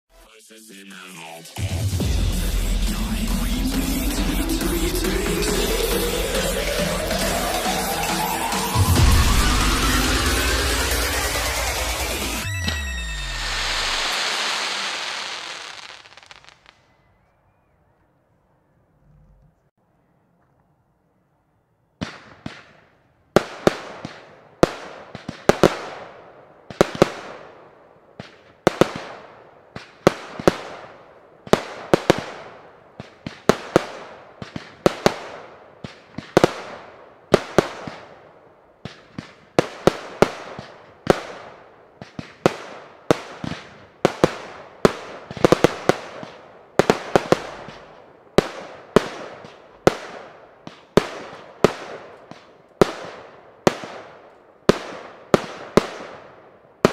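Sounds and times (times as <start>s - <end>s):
fireworks bangs with crackle: 1.8s - 16.8s, 23.4s - 27.6s, 28.2s - 56.9s.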